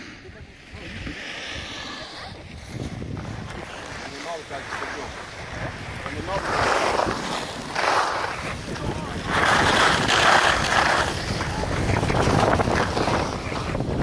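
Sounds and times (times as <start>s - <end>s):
skis scraping over snow: 0.0s - 14.0s
wind buffeting microphone: 0.0s - 14.0s.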